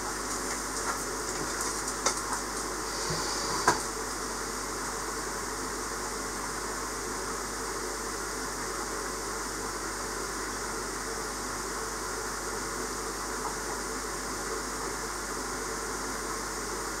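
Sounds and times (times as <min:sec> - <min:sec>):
aquarium equipment hiss and hum: 0:00.0 - 0:17.0.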